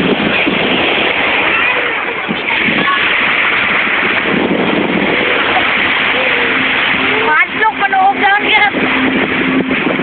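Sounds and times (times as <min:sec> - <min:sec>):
small waves washing up shore: 0:00.0 - 0:10.0.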